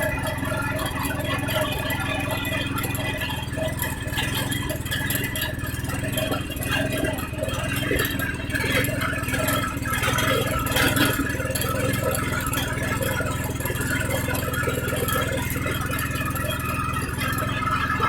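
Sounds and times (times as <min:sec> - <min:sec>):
irregular clatter: 0:00.0 - 0:18.0
small petrol engine running: 0:00.0 - 0:18.0.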